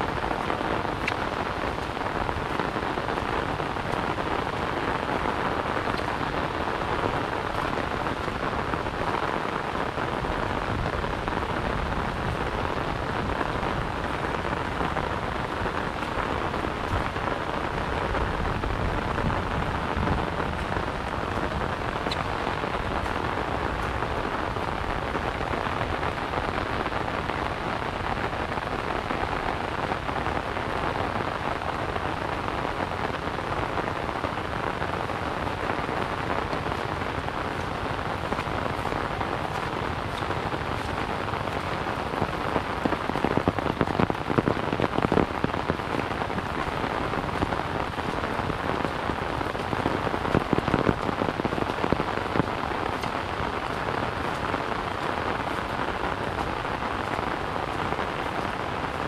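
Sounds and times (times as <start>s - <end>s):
rain on an umbrella: 0.0s - 59.0s.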